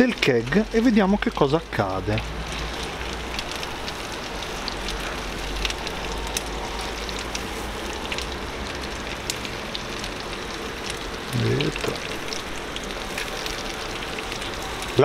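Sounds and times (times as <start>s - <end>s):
chicken sizzling with crackles: 0.0s - 15.0s.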